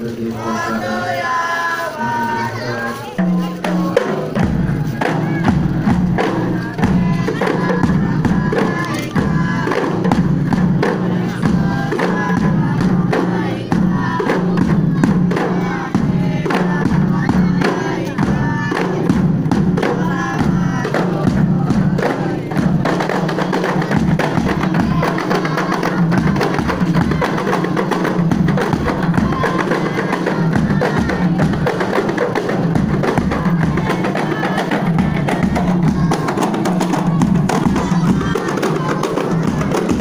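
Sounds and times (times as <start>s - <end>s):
frame drums pattering: 0.0s - 40.0s
low barrel drum strokes: 0.0s - 40.0s.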